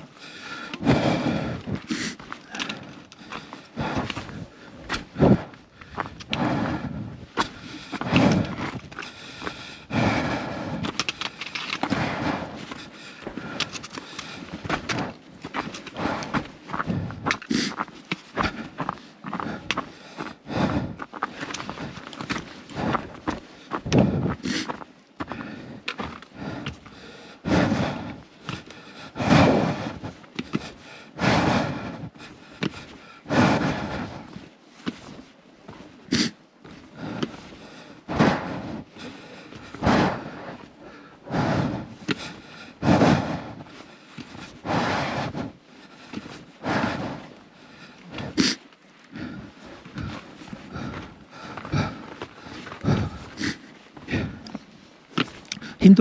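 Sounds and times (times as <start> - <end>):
person breathing hard: 0.0 - 56.0.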